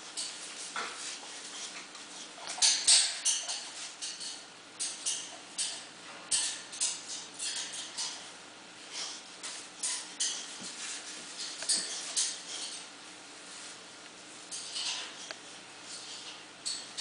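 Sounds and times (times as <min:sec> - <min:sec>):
dogs rustling and scuffling: 0:00.0 - 0:17.0.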